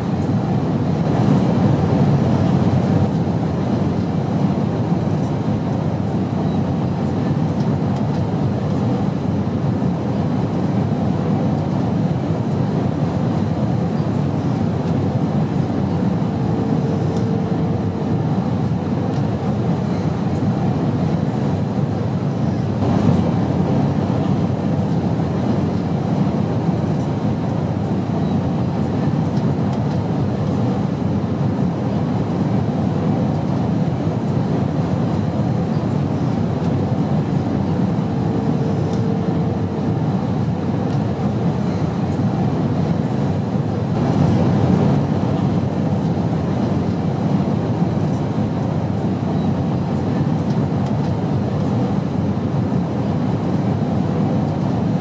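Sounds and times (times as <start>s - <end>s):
airplane drone: 0.0s - 55.0s.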